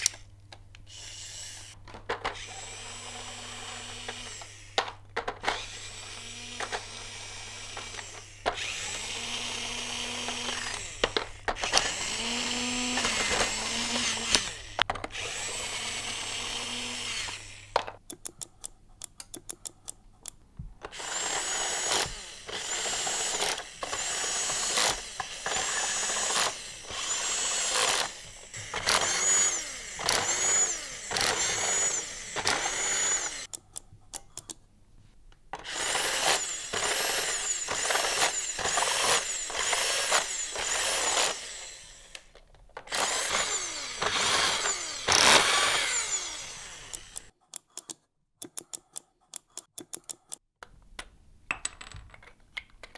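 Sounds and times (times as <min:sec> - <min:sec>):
toy screwdriver motor whirring: 0:00.0 - 0:18.6, 0:20.8 - 0:33.6, 0:35.6 - 0:50.4.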